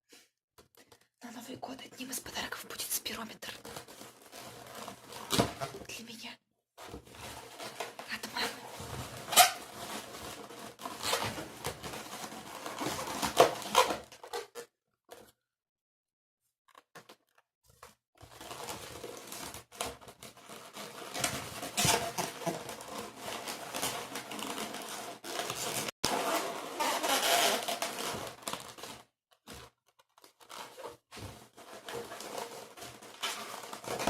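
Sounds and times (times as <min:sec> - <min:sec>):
rubber balloons rubbing and crinkling: 0:00.9 - 0:06.1, 0:06.8 - 0:14.5, 0:18.2 - 0:34.0.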